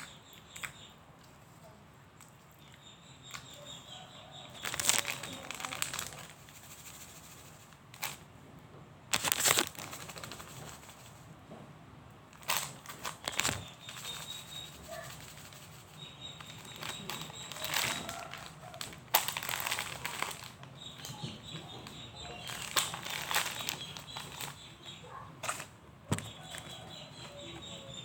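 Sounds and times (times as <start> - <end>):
crunching food close up: 0.0 - 1.5, 2.1 - 8.3, 9.1 - 11.2, 12.3 - 28.0.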